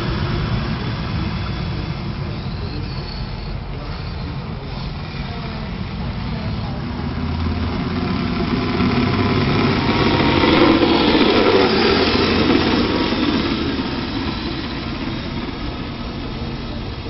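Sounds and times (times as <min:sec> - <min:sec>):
radio-controlled car driving: 0:00.0 - 0:17.0.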